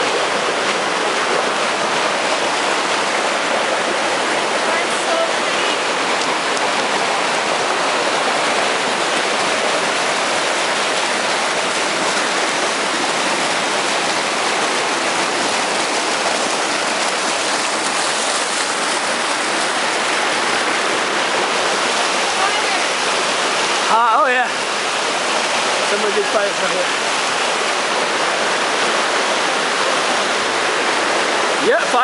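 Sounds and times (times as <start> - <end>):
creek rushing over rocks: 0.0 - 32.0.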